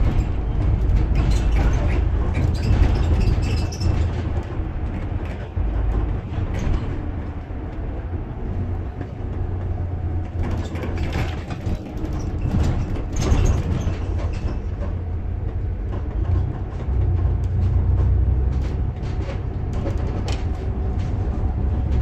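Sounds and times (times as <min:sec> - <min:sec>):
bus body rattling and knocking: 0:00.0 - 0:22.0
bus engine and road rumble: 0:00.0 - 0:22.0.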